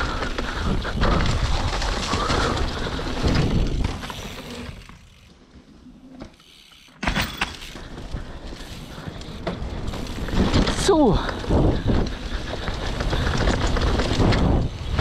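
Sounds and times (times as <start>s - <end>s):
bike drivetrain and frame rattle: 0.0s - 15.0s
bike tyre rumble: 0.0s - 15.0s.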